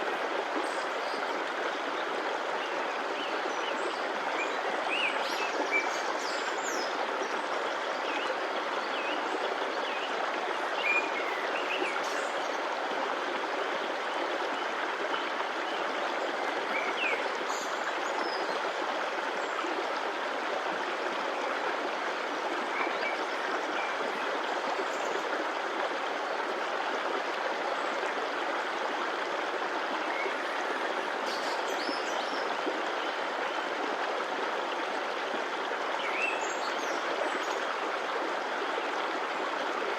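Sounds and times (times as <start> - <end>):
stream of flowing water: 0.0 - 39.9.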